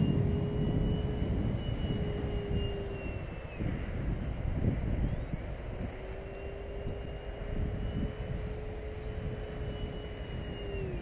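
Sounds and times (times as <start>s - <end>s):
model plane motor whine: 0.0s - 11.0s
wind buffeting microphone: 0.0s - 11.0s.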